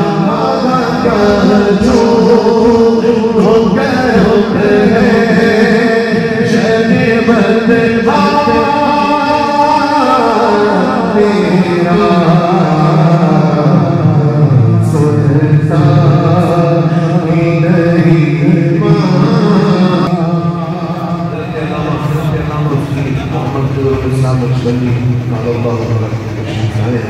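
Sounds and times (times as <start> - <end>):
man singing devotional song: 0.0 - 25.9.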